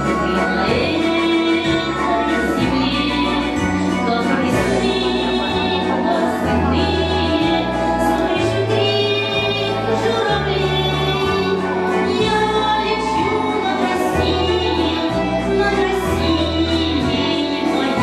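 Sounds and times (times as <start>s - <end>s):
instrumental accompaniment: 0.0s - 18.0s
woman singing slow song: 0.1s - 18.0s.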